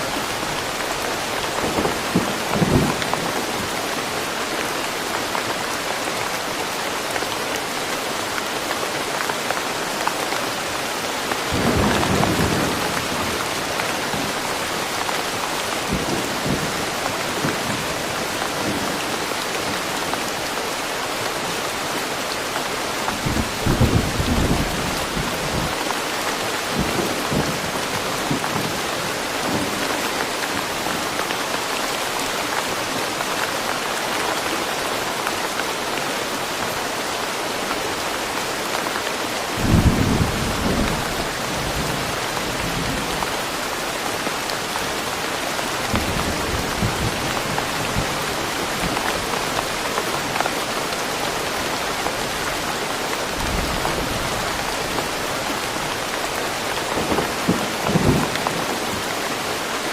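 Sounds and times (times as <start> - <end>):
rain falling on trees: 0.0 - 59.9.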